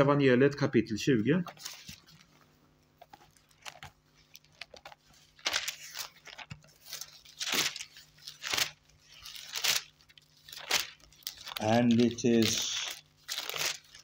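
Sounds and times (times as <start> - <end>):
thin pages turning: 1.5 - 14.0.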